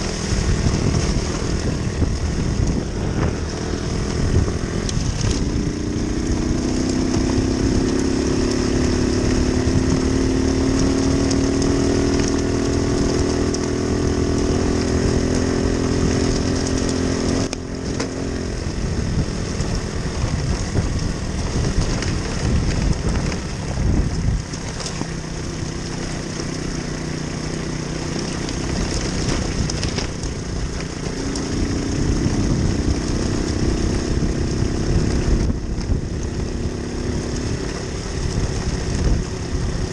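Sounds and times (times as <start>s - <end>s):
moped engine droning: 0.0s - 39.9s
wind and road noise: 0.0s - 39.9s.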